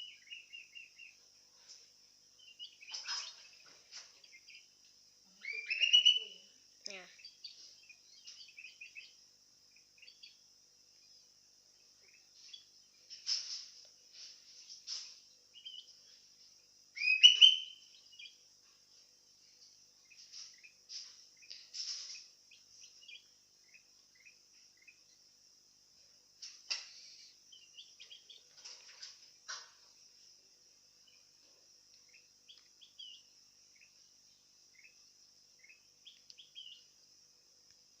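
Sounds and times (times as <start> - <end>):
bird chirping: 0.0 - 38.0.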